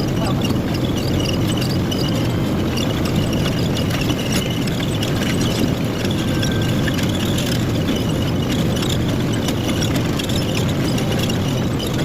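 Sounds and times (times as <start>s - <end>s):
tractor engine rumbling: 0.0s - 12.0s.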